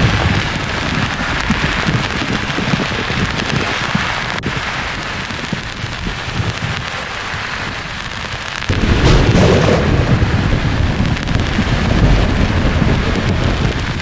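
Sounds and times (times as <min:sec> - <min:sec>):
thunder crack and rumble: 0:00.0 - 0:14.0.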